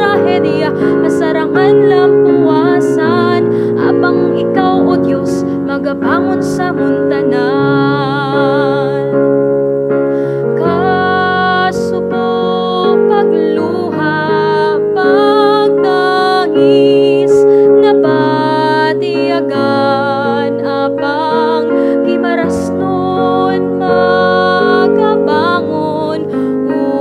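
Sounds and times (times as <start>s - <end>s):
woman singing with vibrato: 0.0s - 9.3s, 10.2s - 27.0s
keyboard chords: 0.0s - 27.0s.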